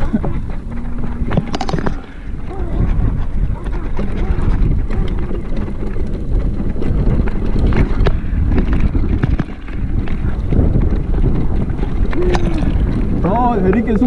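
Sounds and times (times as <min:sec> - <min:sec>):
bike rattles and knocks: 0:00.0 - 0:14.0
wind buffeting on microphone: 0:00.0 - 0:14.0.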